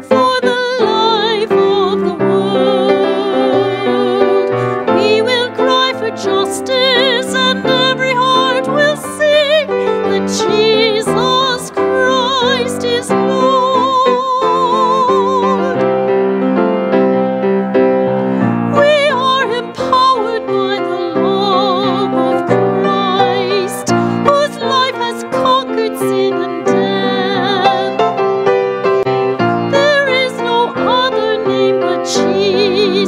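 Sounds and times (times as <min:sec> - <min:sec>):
woman singing with vibrato: 0:00.0 - 0:16.0, 0:18.4 - 0:28.3, 0:29.6 - 0:33.0
grand piano: 0:00.0 - 0:33.0.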